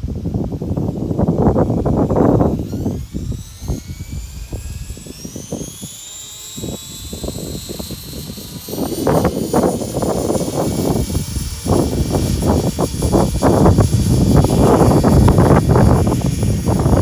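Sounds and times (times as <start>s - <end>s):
rc helicopter whine: 0.0s - 17.0s
wind buffeting microphone: 0.0s - 17.0s.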